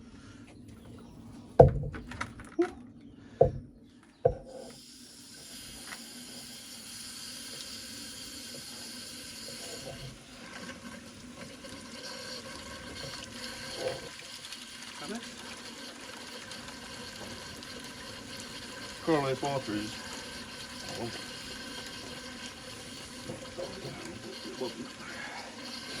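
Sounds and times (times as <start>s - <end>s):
hose water rushing through radiator: 4.5s - 26.0s.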